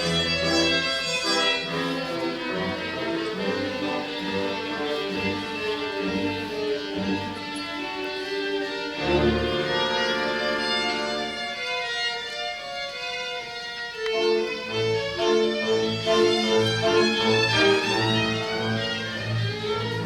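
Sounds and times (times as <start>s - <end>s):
classical string music: 0.0s - 20.0s.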